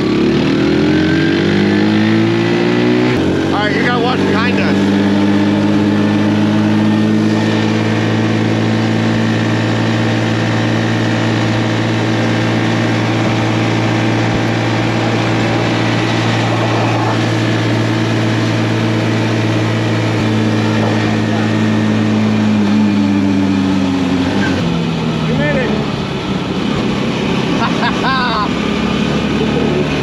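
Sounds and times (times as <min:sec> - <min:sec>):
small vehicle engine cruising: 0:00.0 - 0:30.0.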